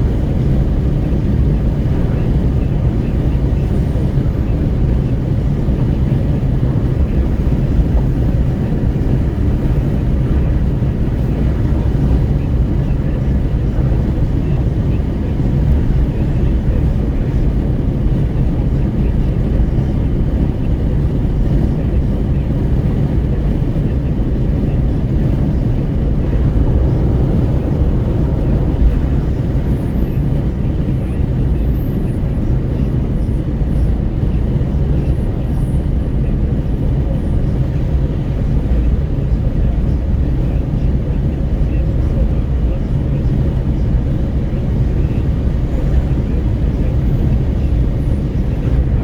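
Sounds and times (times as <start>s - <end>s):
road and tyre noise: 0.0s - 49.0s
wind rushing through car window: 0.0s - 49.0s.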